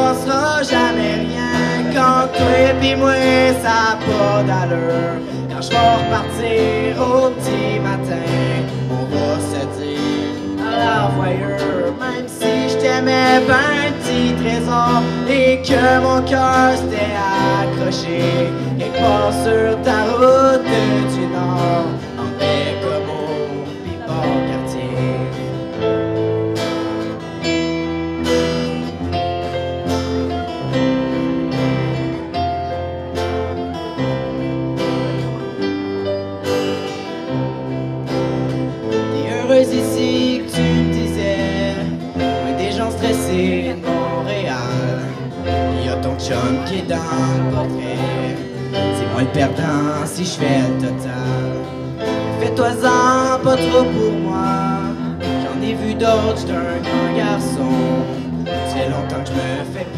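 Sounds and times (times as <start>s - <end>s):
young man singing: 0.0s - 27.5s, 38.5s - 59.9s
electric bass: 0.0s - 59.9s
electric keyboard: 0.0s - 59.9s
strummed acoustic-electric guitar: 0.0s - 59.9s.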